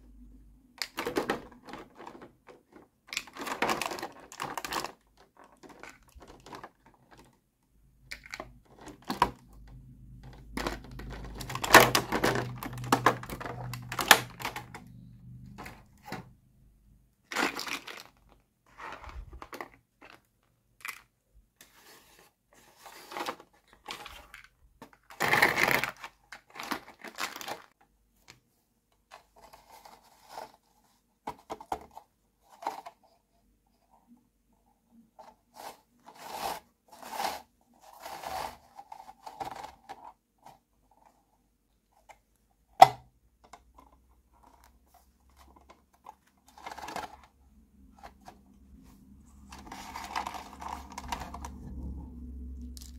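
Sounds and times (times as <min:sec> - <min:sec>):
plastic tray crinkling and scraping: 0:00.8 - 0:07.4, 0:08.1 - 0:16.4, 0:17.3 - 0:27.8, 0:29.1 - 0:33.2, 0:35.0 - 0:41.2, 0:43.7 - 0:52.9.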